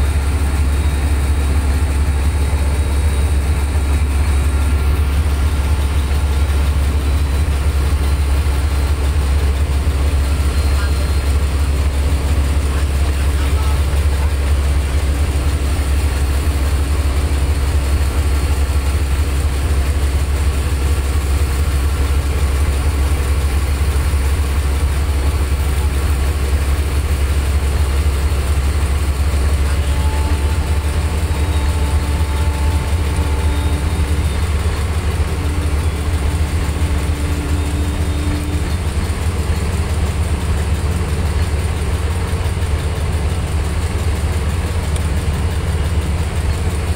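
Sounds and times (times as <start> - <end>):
boat engine idling: 0.0 - 46.9.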